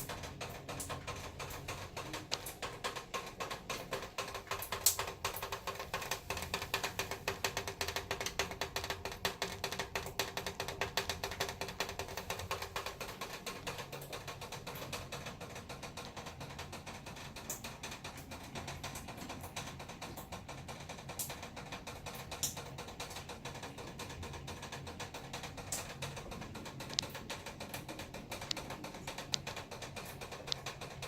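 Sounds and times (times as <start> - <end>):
faint steady hum: 0.0 - 31.0
heavy rain tapping on window: 0.0 - 31.0.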